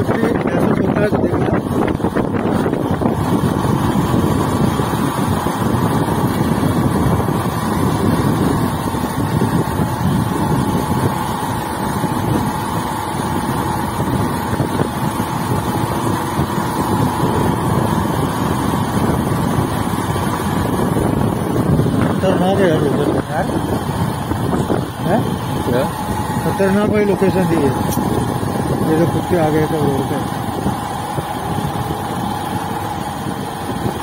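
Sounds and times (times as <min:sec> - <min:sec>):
vehicle running: 0:00.0 - 0:34.0
wind on microphone: 0:00.0 - 0:34.0.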